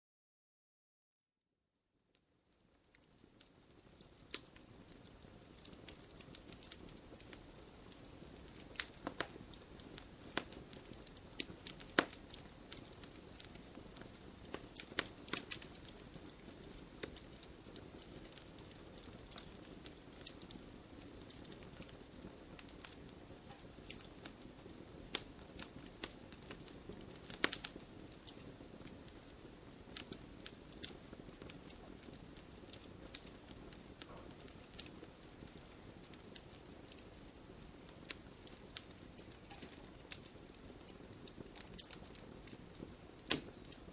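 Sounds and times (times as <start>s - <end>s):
campfire crackling: 2.1s - 43.9s.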